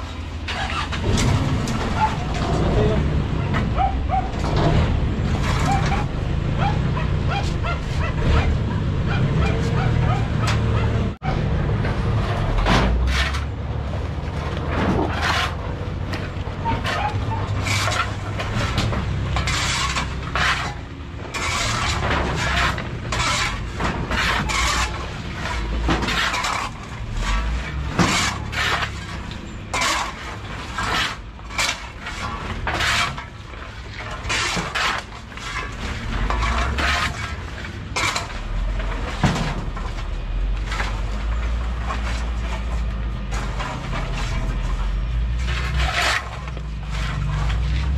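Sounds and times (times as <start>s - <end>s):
metal shovels scooping: 0.0s - 11.2s, 12.1s - 47.9s.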